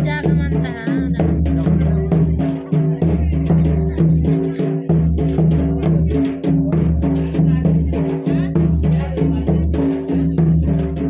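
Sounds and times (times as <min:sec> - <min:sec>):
loud music with drum beat: 0:00.0 - 0:11.0.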